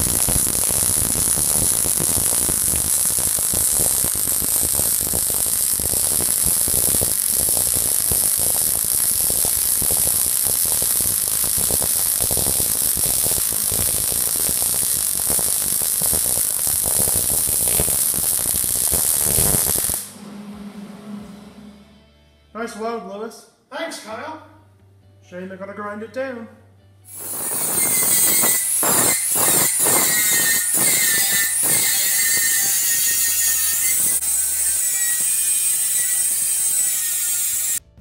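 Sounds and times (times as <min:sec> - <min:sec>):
welding arc crackle: 0:00.0 - 0:20.1, 0:27.1 - 0:37.8.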